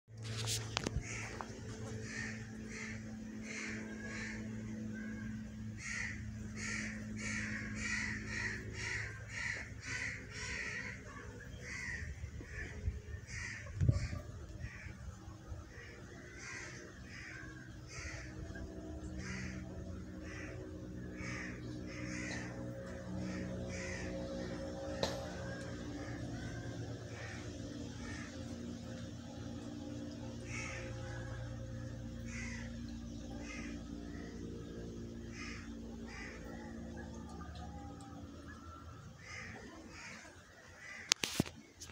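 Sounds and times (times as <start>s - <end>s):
low steady hum: 0.1s - 41.9s.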